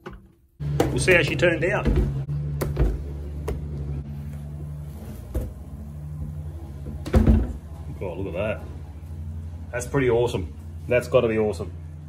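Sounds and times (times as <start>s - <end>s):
low hum: 0.6s - 12.0s.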